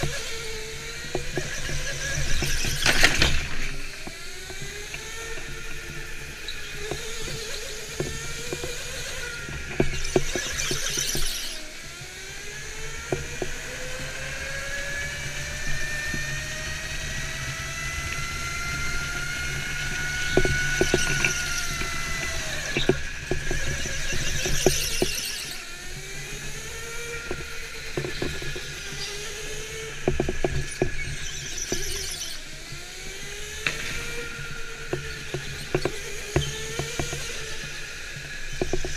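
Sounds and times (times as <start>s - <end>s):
go-kart motor whine: 0.0s - 38.9s.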